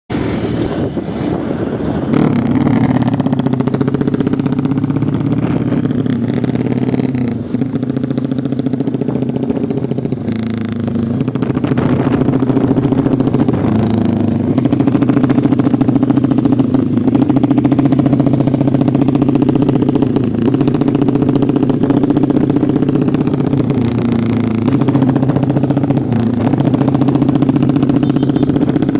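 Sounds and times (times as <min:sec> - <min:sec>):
motorcycle engine running: 0:00.2 - 0:28.9.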